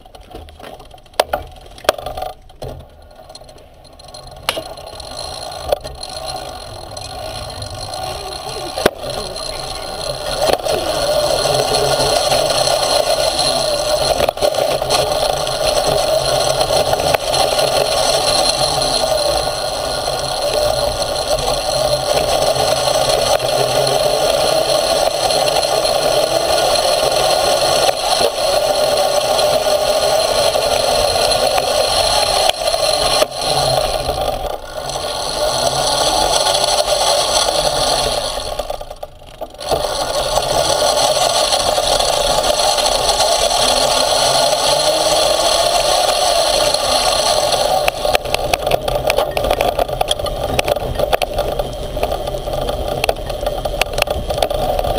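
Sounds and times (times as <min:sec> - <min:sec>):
wheels rattling over dirt: 0:00.0 - 0:54.9
motor whine: 0:01.1 - 0:54.9.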